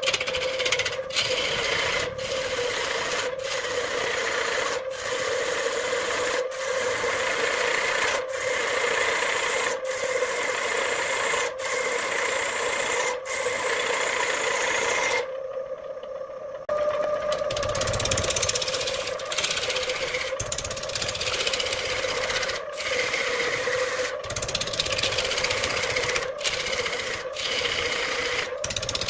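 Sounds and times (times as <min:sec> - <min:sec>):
lathe tool scraping wood: 0:00.0 - 0:15.3, 0:17.3 - 0:29.0
lathe steady tone: 0:00.0 - 0:29.0.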